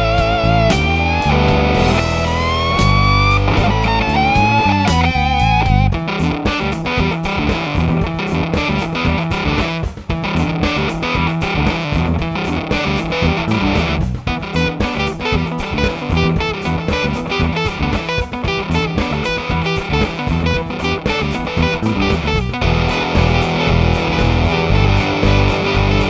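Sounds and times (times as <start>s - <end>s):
fuzz electric guitar: 0.0s - 26.0s.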